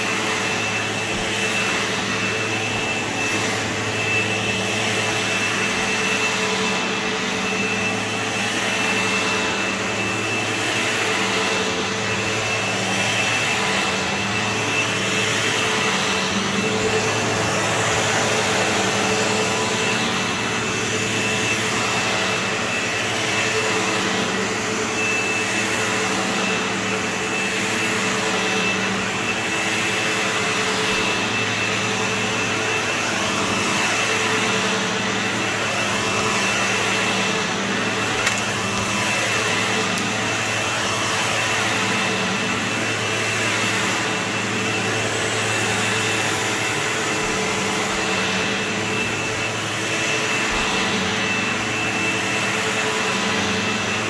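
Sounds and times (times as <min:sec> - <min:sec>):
vacuum cleaner on carpet: 0:00.0 - 0:54.0.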